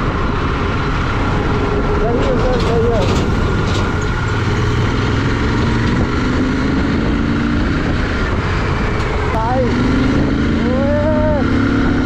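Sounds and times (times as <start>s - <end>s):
motorcycle engine hum: 0.0s - 12.0s
wind and road noise: 0.0s - 12.0s.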